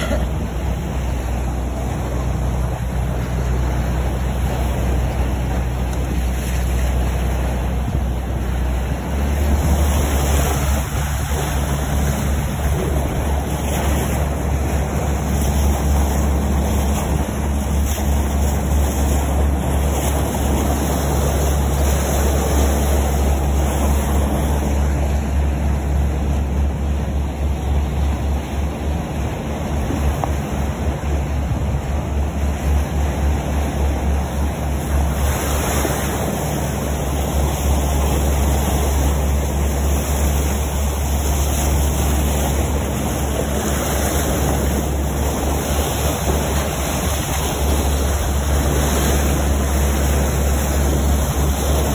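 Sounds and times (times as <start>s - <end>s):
boat engine rumble: 0.0s - 51.9s
water splashing along hull: 0.0s - 51.9s.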